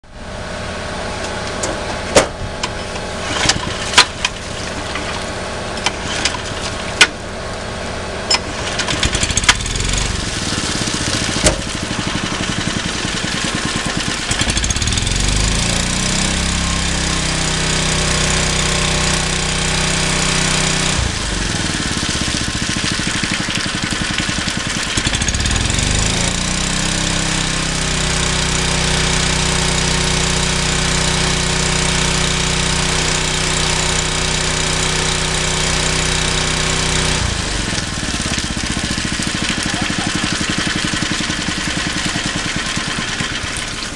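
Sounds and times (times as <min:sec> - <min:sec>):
small pump engine thumping: 0:01.2 - 0:07.4, 0:08.2 - 0:32.5, 0:33.1 - 0:43.9.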